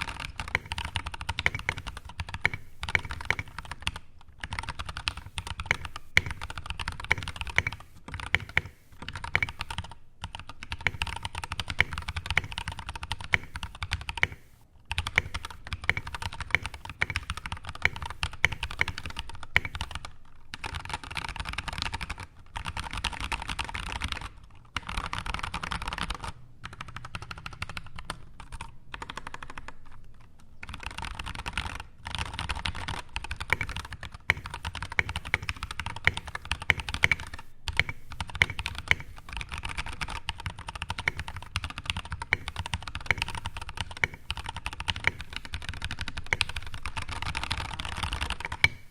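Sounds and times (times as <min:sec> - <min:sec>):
fast typing on mechanical keyboard: 0:00.0 - 0:48.9.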